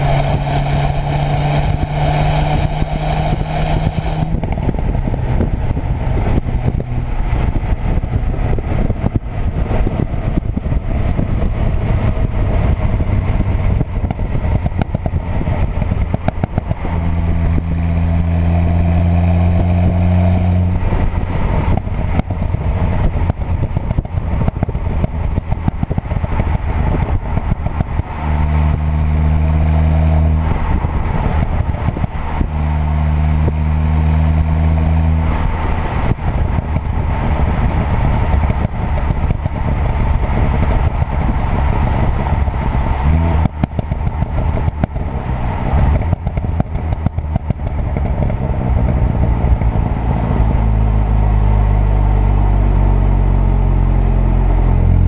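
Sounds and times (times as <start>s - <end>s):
car exhaust crackling and popping: 0.0s - 55.0s.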